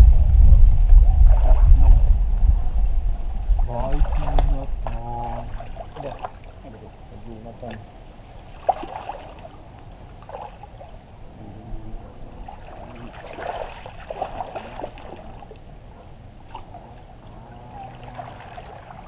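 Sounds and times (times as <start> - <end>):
muddy water sloshing and splashing: 1.1 - 11.4, 12.0 - 19.0.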